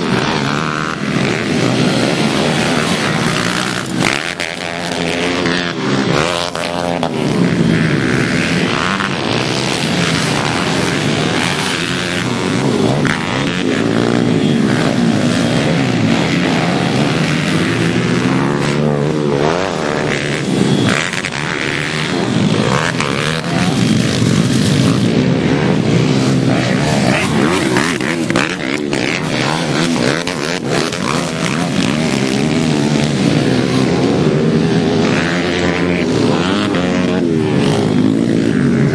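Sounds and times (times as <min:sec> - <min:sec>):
pit bike engines revving: 0:00.0 - 0:38.9.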